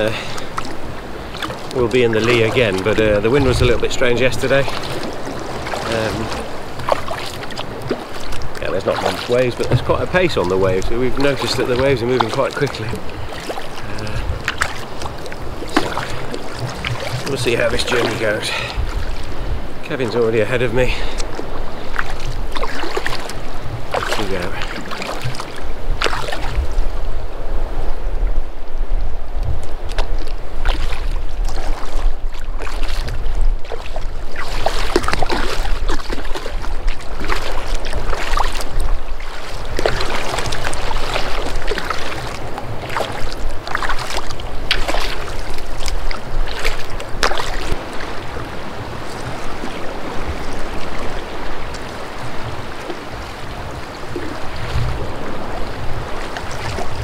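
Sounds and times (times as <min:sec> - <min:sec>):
paddle splashing into water: 0:00.0 - 0:27.0, 0:29.6 - 0:57.0
small waves splashing: 0:00.0 - 0:57.0
wind buffeting microphone: 0:00.0 - 0:57.0.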